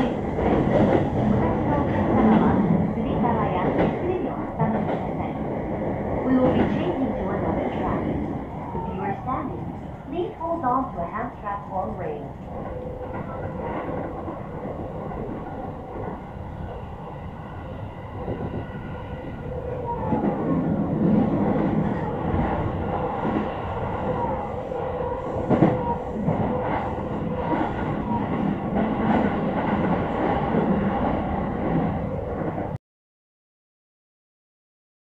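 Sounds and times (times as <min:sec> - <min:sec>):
train wheels rumbling on rail: 0:00.0 - 0:32.8.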